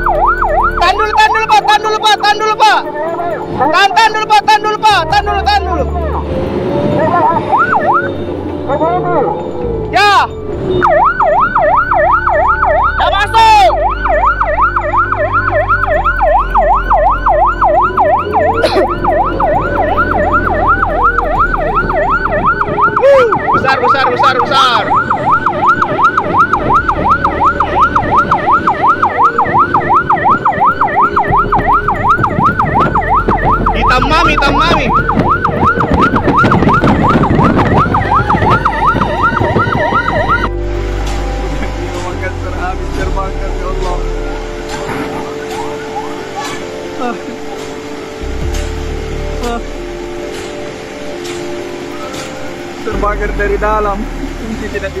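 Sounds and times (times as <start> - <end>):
siren yelping: 0.0 - 42.1, 43.7 - 48.3
low rumble: 4.9 - 45.4, 48.2 - 50.9, 52.4 - 55.0.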